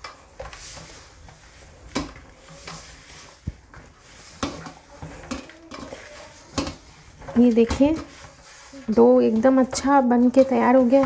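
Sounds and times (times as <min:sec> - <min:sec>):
dough pressing and scraping: 0:00.0 - 0:11.0.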